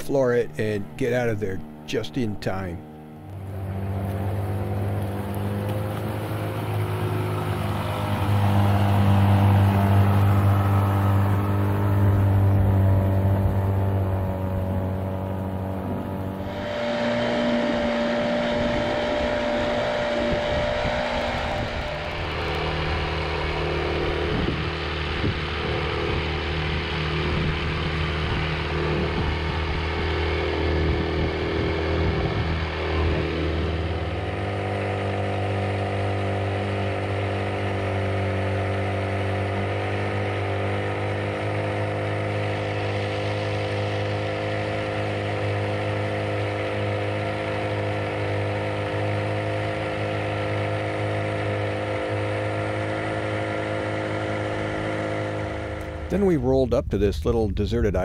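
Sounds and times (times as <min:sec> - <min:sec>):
outboard motor running: 0:00.0 - 0:56.7.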